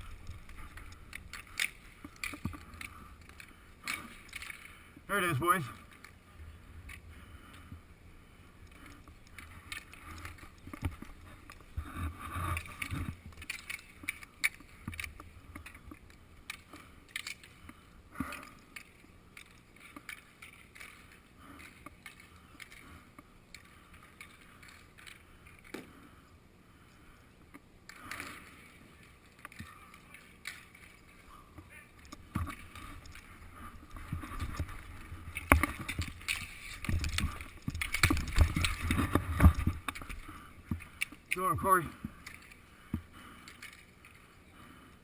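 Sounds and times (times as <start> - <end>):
hockey sticks clacking: 0.0 - 6.2, 8.7 - 25.9, 27.9 - 44.2
skate wheels rolling on concrete: 0.0 - 45.0.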